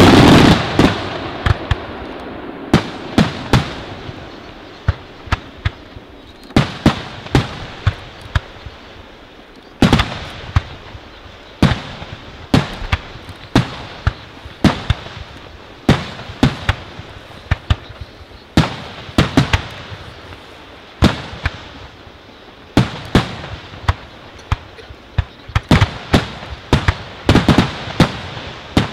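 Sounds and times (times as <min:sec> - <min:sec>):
firework shells bursting: 0:00.0 - 0:28.9.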